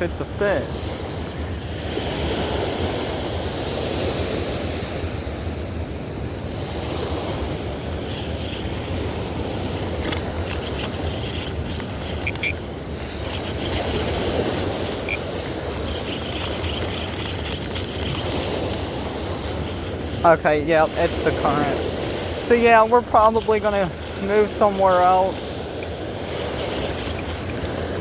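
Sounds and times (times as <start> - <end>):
river current rushing: 0.0 - 28.0
wind on microphone: 0.0 - 28.0.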